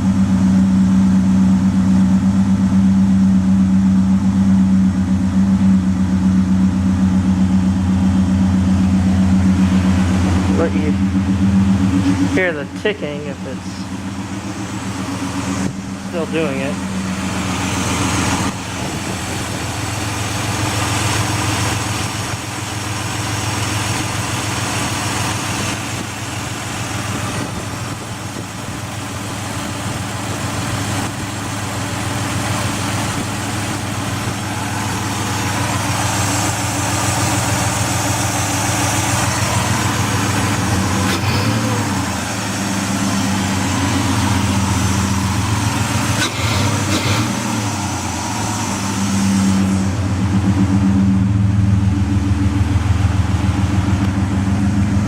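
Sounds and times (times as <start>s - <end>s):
car engine idling roughly: 0.0s - 55.0s.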